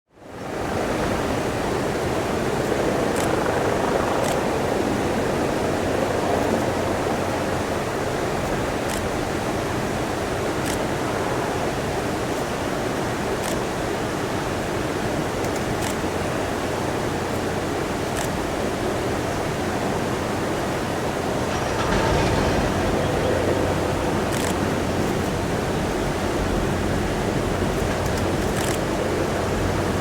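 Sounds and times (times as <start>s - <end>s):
steady rushing noise: 0.2s - 30.0s.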